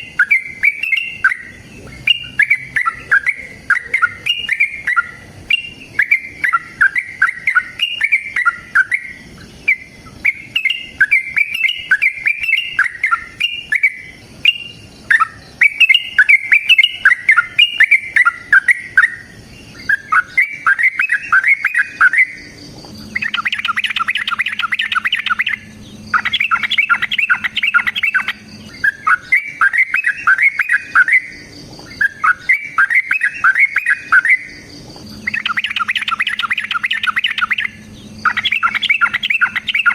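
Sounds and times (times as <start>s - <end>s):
bird singing bubbly chattering song: 0.0s - 39.9s
faint low hum: 0.0s - 39.9s.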